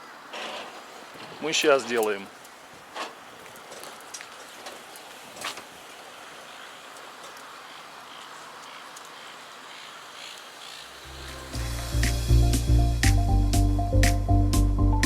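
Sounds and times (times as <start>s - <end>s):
outdoor background hiss: 0.0s - 13.7s.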